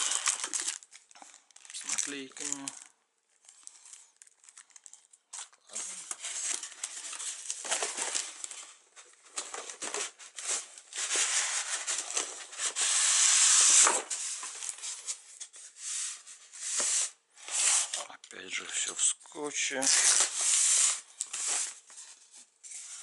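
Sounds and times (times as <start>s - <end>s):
cardboard and paper rustling: 0.0s - 18.2s, 19.7s - 23.0s.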